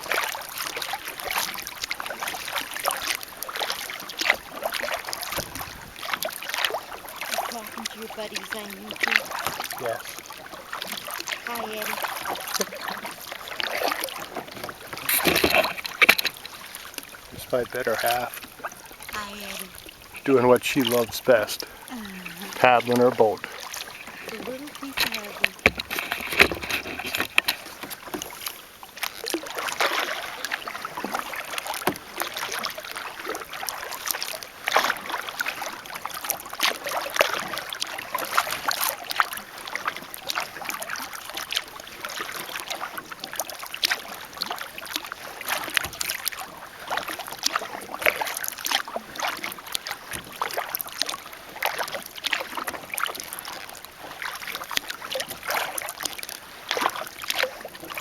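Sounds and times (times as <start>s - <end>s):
paddle splashing in water: 0.0s - 58.0s
water lapping around hull: 0.0s - 58.0s.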